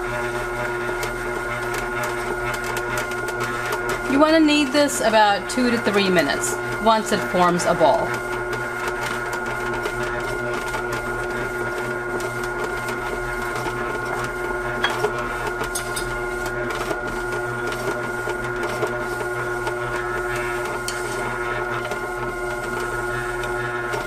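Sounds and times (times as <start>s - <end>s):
grinder motor running: 0.0s - 24.0s.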